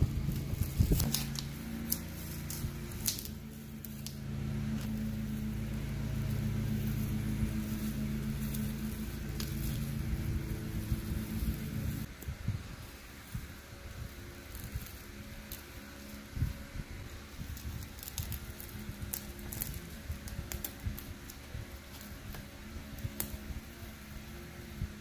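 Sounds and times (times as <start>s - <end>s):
masking tape ripping: 0.0s - 12.3s, 13.1s - 24.8s
low hum: 0.0s - 25.0s.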